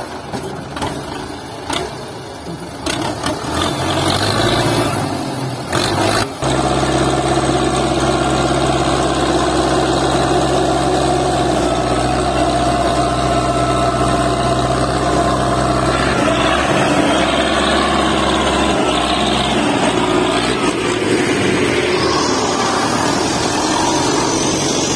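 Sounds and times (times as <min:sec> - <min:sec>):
tractor diesel engine under load: 0:00.0 - 0:24.9.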